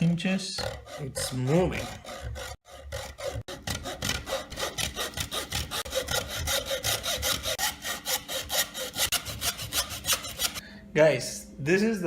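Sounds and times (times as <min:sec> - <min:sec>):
hand saw cutting plastic: 0:00.0 - 0:10.6.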